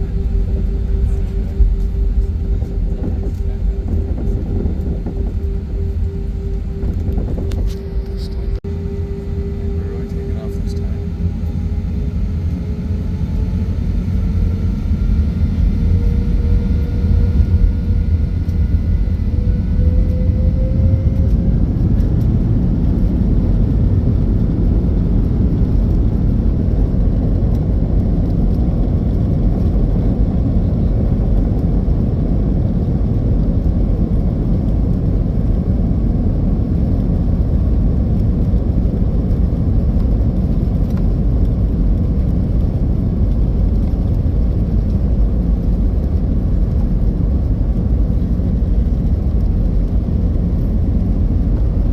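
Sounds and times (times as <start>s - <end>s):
jet engine whine: 0.0s - 51.9s
low engine rumble: 0.0s - 51.9s.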